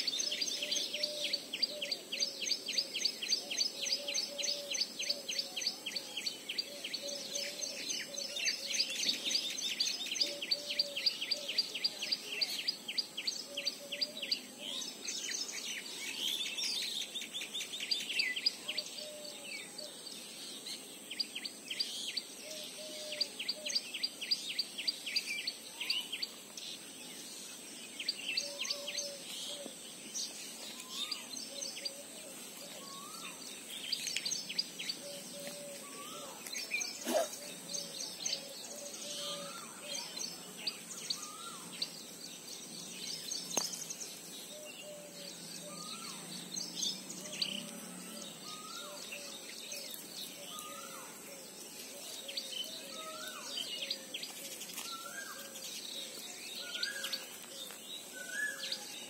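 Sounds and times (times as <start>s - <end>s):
birds chirping: 0.0s - 59.0s
outdoor background hiss: 0.0s - 59.0s.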